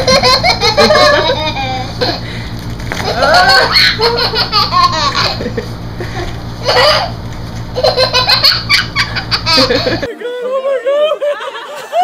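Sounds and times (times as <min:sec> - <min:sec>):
person laughing hard: 0:00.0 - 0:02.4, 0:03.0 - 0:07.2, 0:07.8 - 0:12.0
steady low hum: 0:00.0 - 0:12.0.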